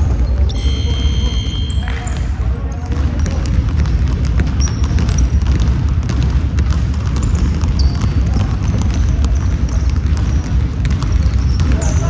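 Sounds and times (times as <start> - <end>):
basketball bouncing: 0.0 - 12.0
sneakers squeaking on floor: 0.0 - 12.0.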